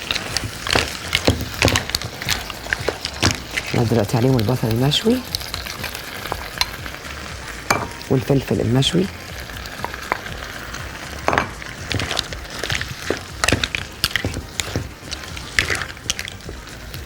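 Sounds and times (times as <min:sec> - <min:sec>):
faint food sizzling: 0:00.0 - 0:17.0
utensil scraping a pan: 0:00.0 - 0:17.0.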